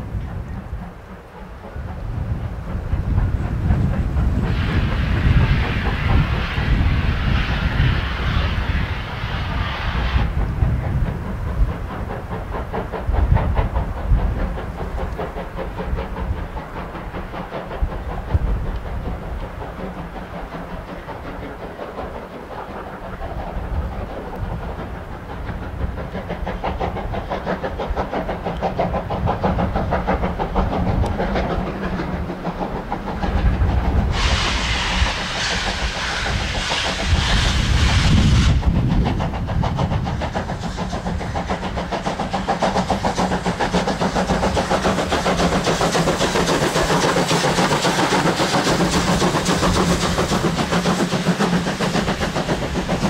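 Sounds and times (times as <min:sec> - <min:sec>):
loud hiss of escaping steam: 0:00.0 - 0:53.0
steam locomotive chuffing: 0:00.0 - 0:53.0
wind rumbling on microphone: 0:00.0 - 0:53.0.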